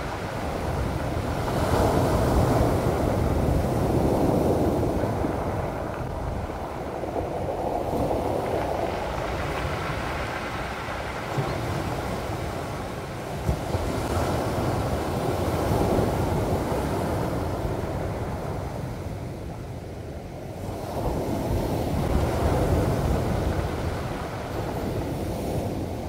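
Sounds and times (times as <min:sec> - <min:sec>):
waves washing over pebbles: 0:00.0 - 0:26.0.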